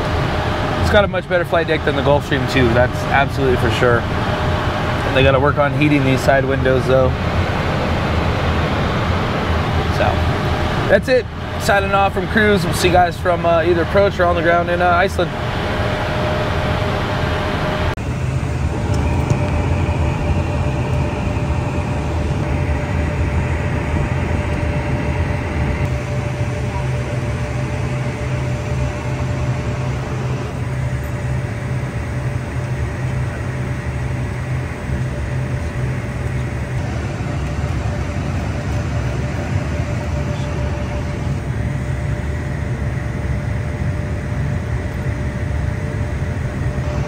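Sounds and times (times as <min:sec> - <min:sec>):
aircraft cabin rumble: 0:00.0 - 0:47.0
faint steady whine: 0:00.0 - 0:47.0.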